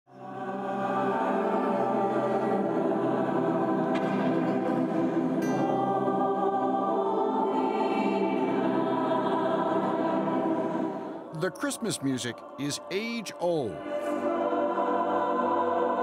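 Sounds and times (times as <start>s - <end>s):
choir singing with reverberation: 0.1s - 16.0s.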